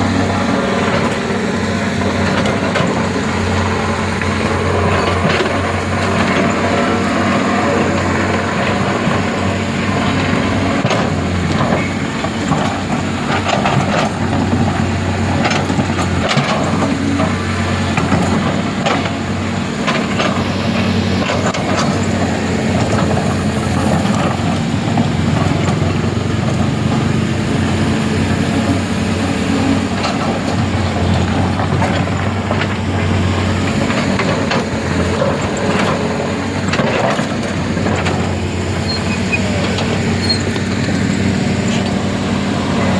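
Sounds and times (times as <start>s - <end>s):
heavy diesel engine running: 0.0s - 42.9s
knocks and clatter: 0.2s - 42.9s.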